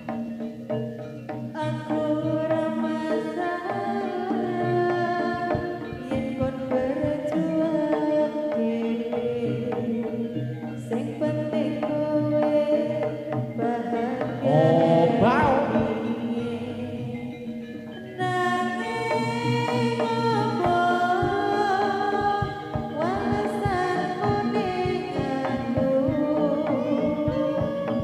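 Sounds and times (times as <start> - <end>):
gamelan tones: 0.0 - 28.0
hand drums beating: 0.0 - 28.0
person singing: 1.6 - 28.0.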